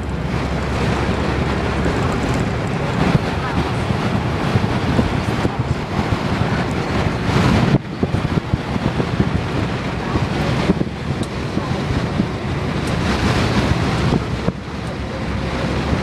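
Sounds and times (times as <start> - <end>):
road and wind noise in vehicle: 0.0 - 16.0.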